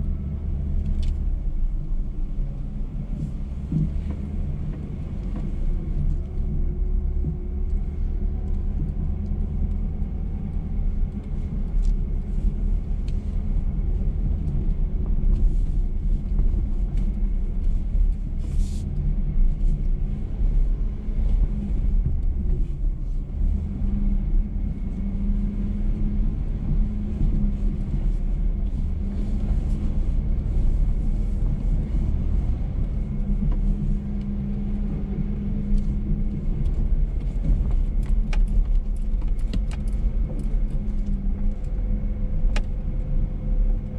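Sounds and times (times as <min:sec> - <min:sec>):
pickup engine rumble: 0:00.0 - 0:43.9.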